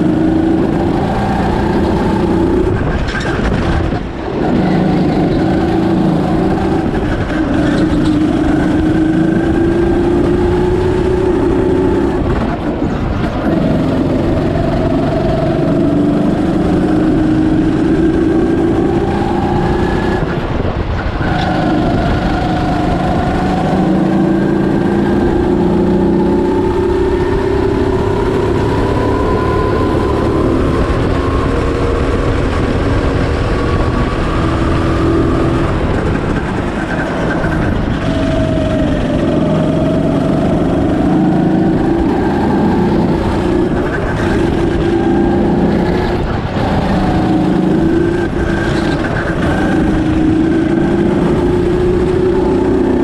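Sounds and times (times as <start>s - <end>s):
go-kart engine: 0.0s - 53.0s.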